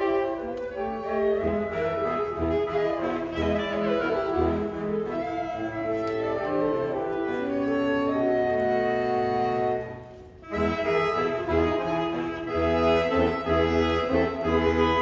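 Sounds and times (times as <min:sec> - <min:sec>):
pulsing low baritone sax notes: 0:00.0 - 0:15.0
saxophone quartet playing chords: 0:00.0 - 0:15.0.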